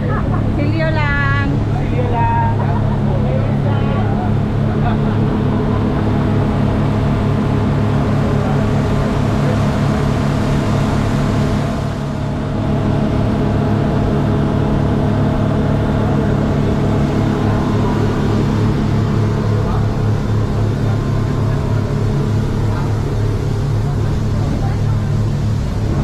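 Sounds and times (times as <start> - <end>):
engine droning steadily: 0.0 - 26.0.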